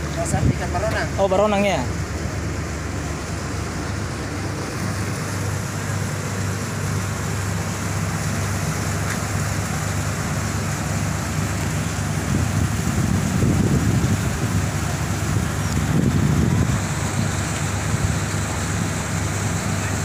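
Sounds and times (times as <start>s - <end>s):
engine-like hum: 0.0s - 20.0s.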